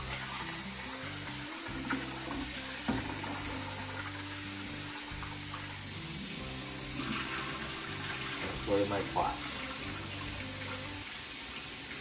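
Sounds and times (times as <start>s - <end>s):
background music: 0.0s - 11.5s
faucet running into a bowl: 0.0s - 12.0s
rice rinsed by hand: 0.0s - 12.0s.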